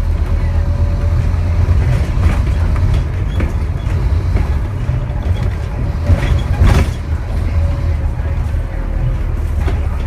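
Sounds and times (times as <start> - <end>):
bus diesel engine droning: 0.0 - 10.0.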